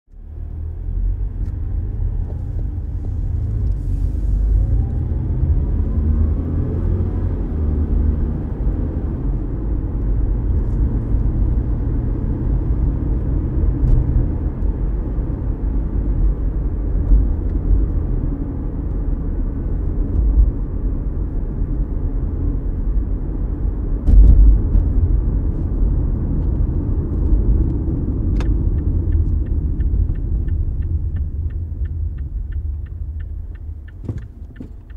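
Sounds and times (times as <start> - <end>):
car engine and road noise: 0.1 - 34.9.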